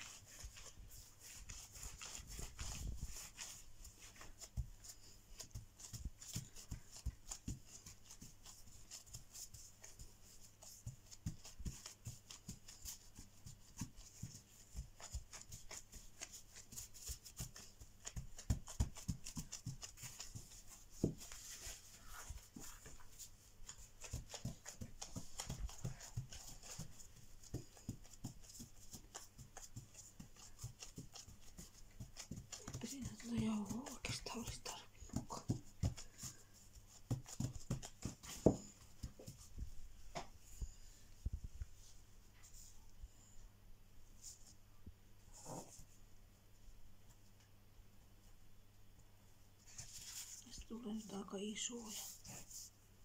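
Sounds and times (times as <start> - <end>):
hands patting dough: 0.0 - 42.7, 49.7 - 53.0.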